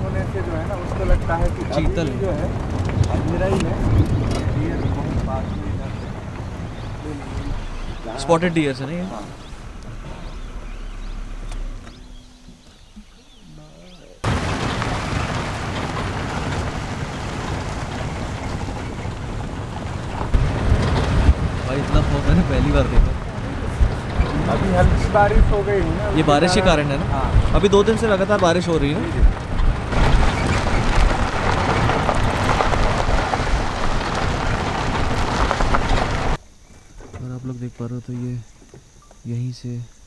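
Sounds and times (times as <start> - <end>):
wind rushing over microphone: 0.0 - 13.2, 14.2 - 36.4
engine rumble: 0.0 - 36.4
tyres on dirt track: 0.0 - 40.0.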